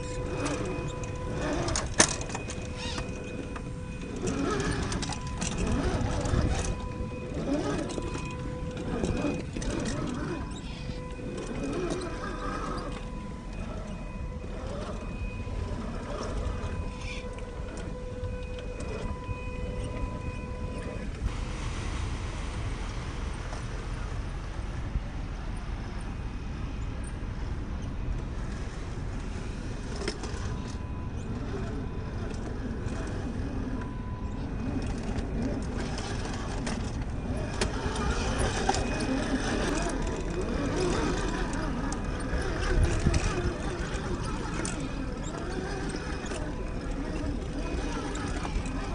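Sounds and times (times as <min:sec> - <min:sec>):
electric motor and gears whining: 0:00.0 - 0:21.6, 0:22.2 - 0:48.9
constant low rumble: 0:00.0 - 0:48.9.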